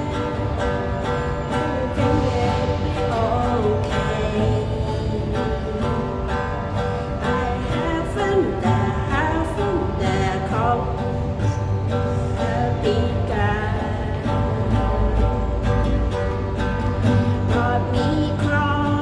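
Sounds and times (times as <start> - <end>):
acoustic guitar: 0.0 - 19.0
person singing: 0.0 - 19.0.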